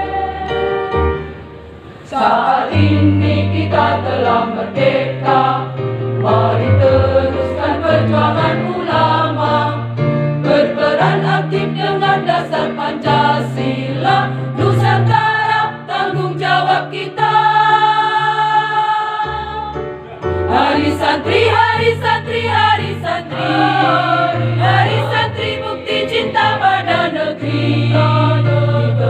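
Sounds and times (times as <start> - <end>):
women's choir singing: 0.0 - 1.4, 2.0 - 29.0.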